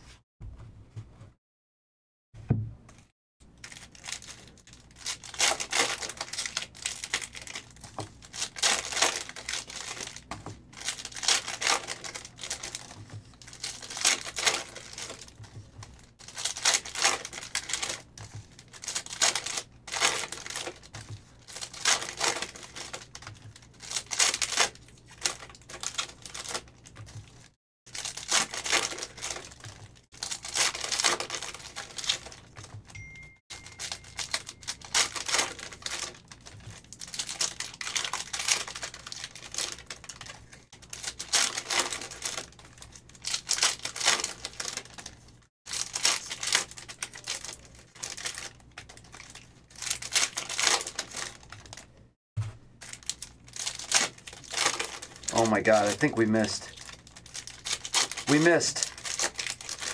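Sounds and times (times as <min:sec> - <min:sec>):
foil wrappers crinkling and tearing: 0:03.6 - 0:32.9, 0:33.5 - 0:52.0, 0:52.8 - 0:59.9.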